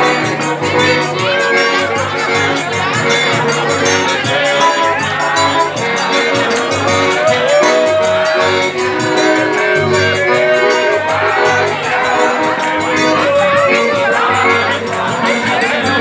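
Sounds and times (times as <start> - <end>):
band music with steady beat: 0.0 - 16.0.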